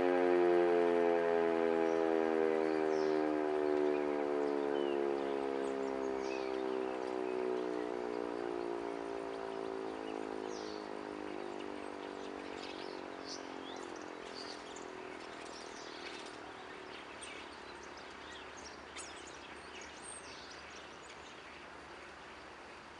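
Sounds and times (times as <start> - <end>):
electric siren winding down: 0.0 - 19.1
birds chirping: 1.4 - 22.9.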